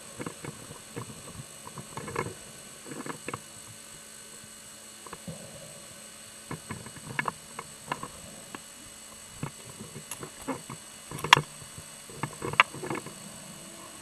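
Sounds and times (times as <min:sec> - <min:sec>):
faint steady hum: 0:00.0 - 0:14.0
sharp clicks and knocks underwater: 0:00.1 - 0:03.8, 0:05.0 - 0:05.8, 0:06.5 - 0:13.3.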